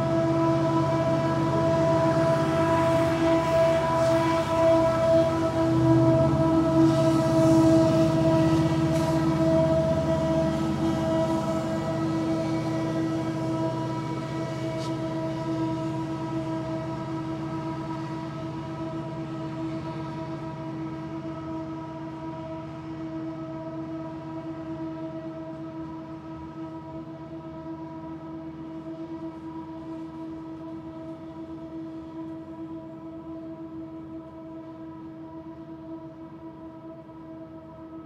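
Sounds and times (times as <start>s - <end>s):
diesel train rumble: 0.0s - 38.0s
steady whine: 0.0s - 38.0s.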